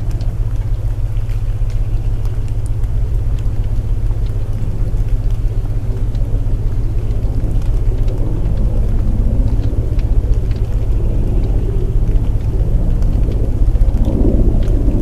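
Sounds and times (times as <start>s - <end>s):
faint crackles: 0.0s - 15.0s
low binaural tone drone: 0.0s - 15.0s
rain: 0.0s - 15.0s.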